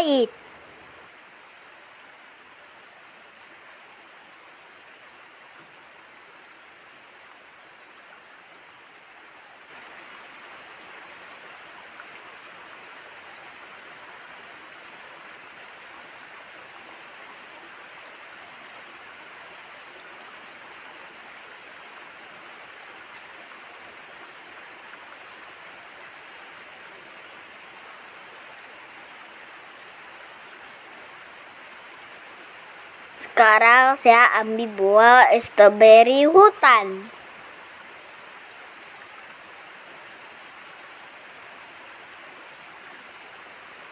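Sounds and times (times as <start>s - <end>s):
outdoor background hiss: 0.0s - 43.9s.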